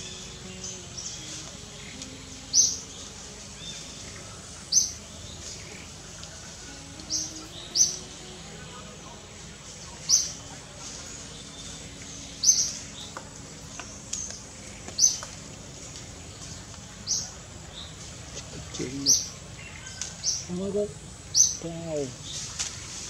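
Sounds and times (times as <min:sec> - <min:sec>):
bird chirping: 0:00.0 - 0:22.6.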